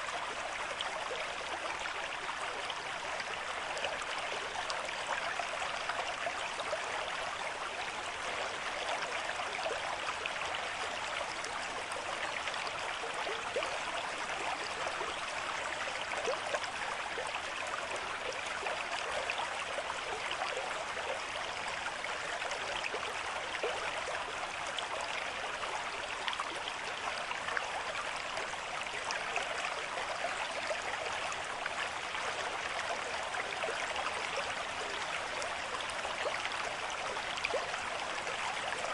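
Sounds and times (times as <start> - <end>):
water babbling: 0.0 - 38.9.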